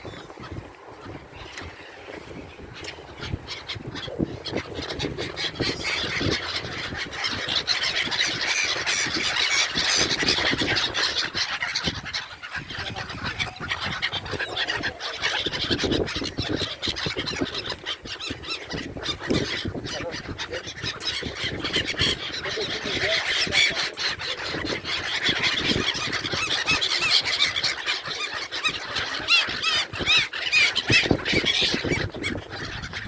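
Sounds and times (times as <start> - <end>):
seabirds squealing chatter: 0.0 - 33.0.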